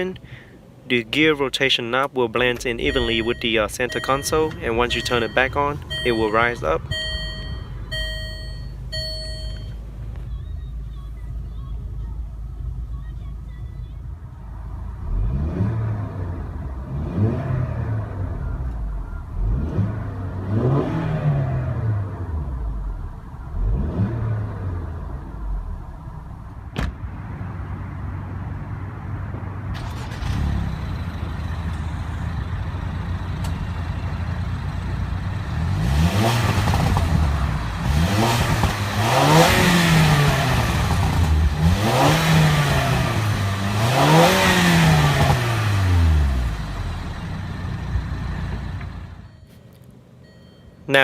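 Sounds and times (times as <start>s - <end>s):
car engine idling and revving: 0.0s - 50.7s.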